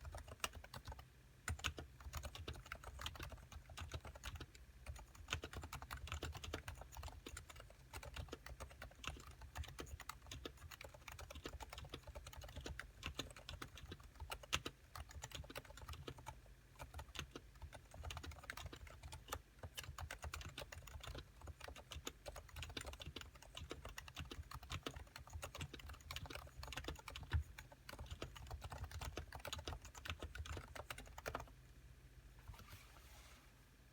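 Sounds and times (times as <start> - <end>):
fast typing on keyboard: 0.0 - 31.5.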